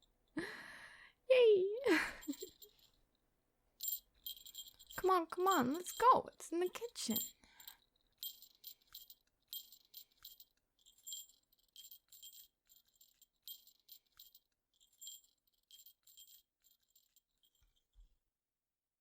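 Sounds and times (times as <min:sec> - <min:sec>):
small jingle bell jingling: 0:01.8 - 0:03.0, 0:03.8 - 0:18.1.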